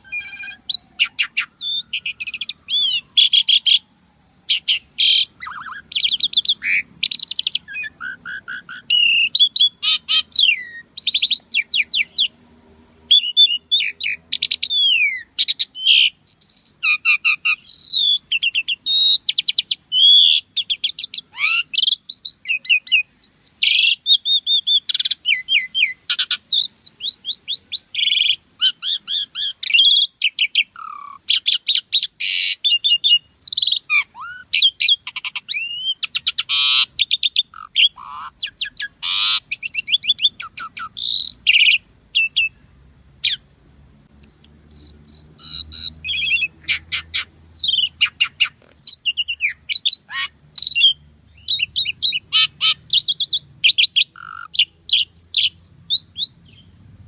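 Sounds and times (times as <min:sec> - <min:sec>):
starling singing: 0:00.0 - 0:43.5, 0:44.2 - 0:56.8.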